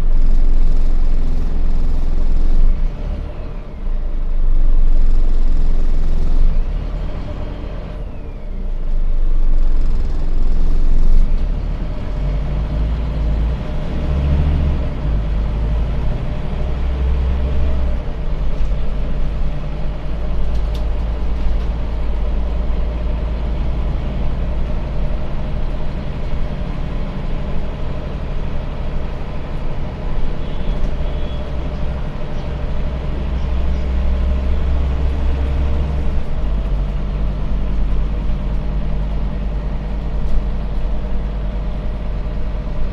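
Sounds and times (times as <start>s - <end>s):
bus diesel engine rumbling: 0.0s - 42.9s
tyre and road noise: 0.0s - 42.9s.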